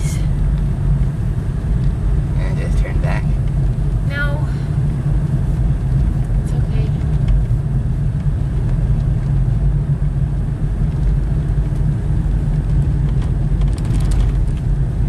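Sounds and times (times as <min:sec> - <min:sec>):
car interior rumble on snowy road: 0:00.0 - 0:15.0.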